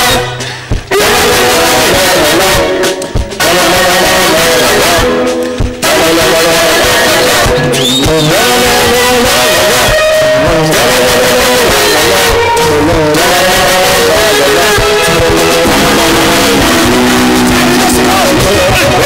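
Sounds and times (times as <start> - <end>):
electric guitar: 0.0 - 19.0
live gospel band music: 0.0 - 19.0
person singing: 0.0 - 19.0.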